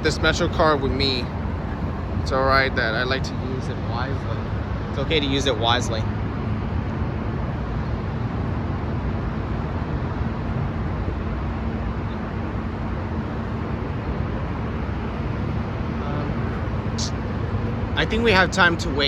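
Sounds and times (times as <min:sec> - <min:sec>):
low engine hum: 0:00.0 - 0:19.0
road traffic noise: 0:00.0 - 0:19.0.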